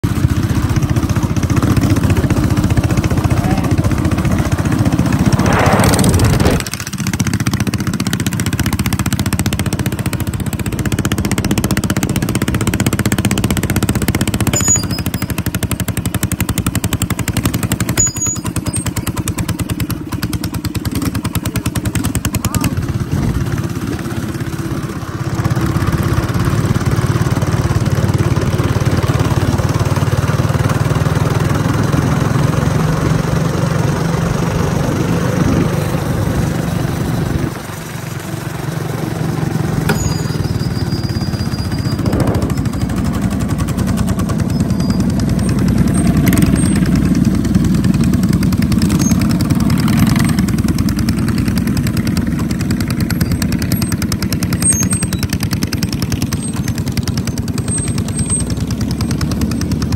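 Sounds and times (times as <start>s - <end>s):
mini bike engines running: 0.0s - 59.9s.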